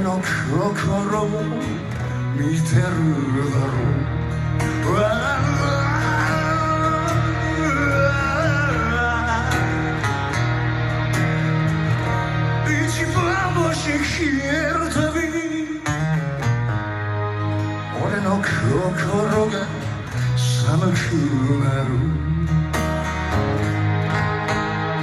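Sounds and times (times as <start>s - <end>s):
instrumental guitar music: 0.0s - 25.0s.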